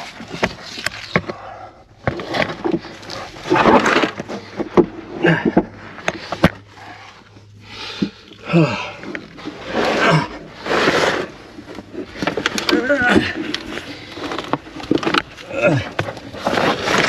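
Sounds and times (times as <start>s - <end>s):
person crawling through tight gap: 0.0s - 17.0s.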